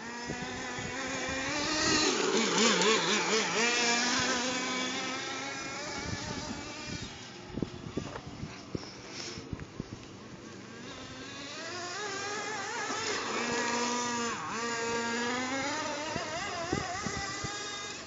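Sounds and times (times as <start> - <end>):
model truck engine whining: 0.0 - 18.0.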